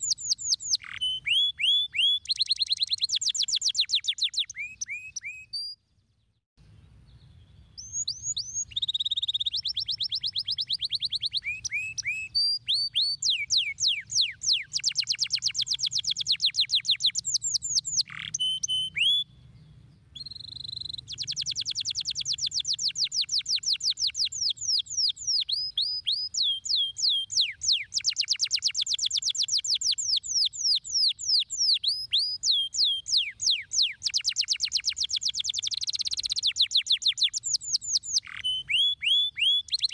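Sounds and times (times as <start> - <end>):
canary singing trills: 0.0 - 5.8, 7.1 - 39.9.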